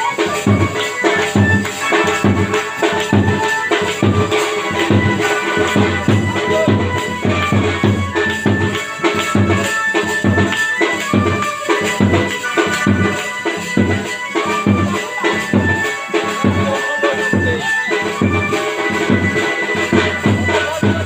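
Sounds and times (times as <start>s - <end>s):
music with percussive beat: 0.0s - 21.0s.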